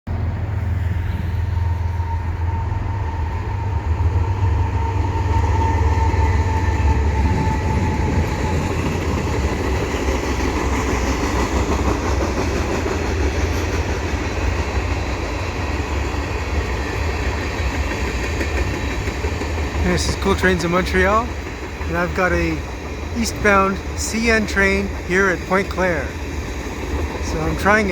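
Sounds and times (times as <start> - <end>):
diesel locomotive rumble: 0.1 - 27.9
rail cars rolling over track: 0.1 - 27.9.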